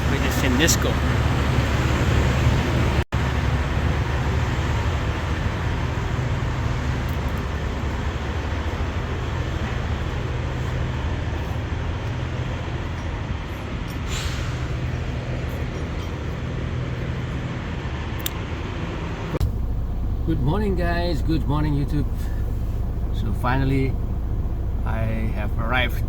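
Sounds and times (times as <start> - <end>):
truck diesel engine drone: 0.0 - 26.0.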